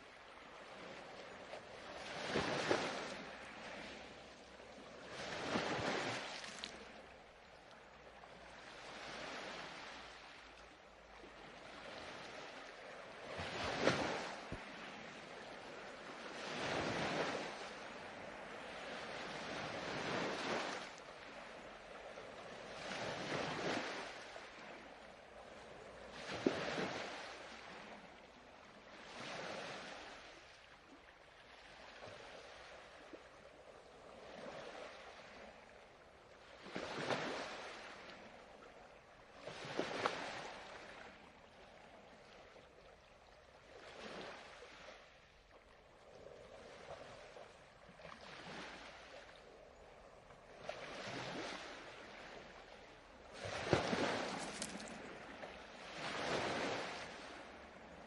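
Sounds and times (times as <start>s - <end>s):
waves washing onto shore: 0.0s - 42.8s, 43.5s - 58.0s.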